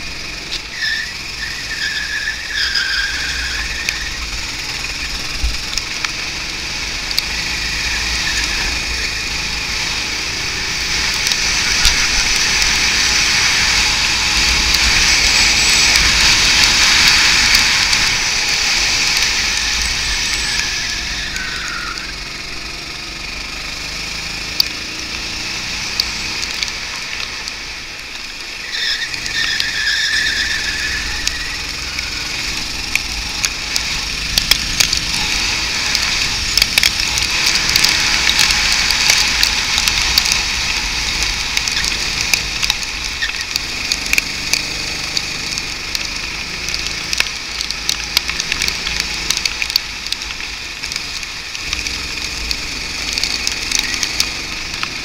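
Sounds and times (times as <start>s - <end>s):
go-kart engine and wind hiss: 0.0s - 47.6s
sharp crackling clicks: 0.1s - 23.0s, 23.6s - 55.0s.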